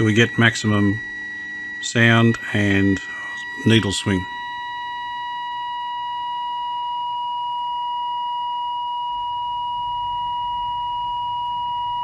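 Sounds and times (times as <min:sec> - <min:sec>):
steady test tone from loudspeaker: 0:00.0 - 0:12.0.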